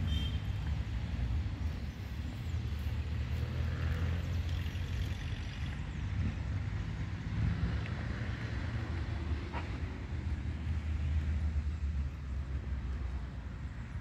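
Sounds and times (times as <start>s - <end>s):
distant cars passing: 0.0s - 14.0s.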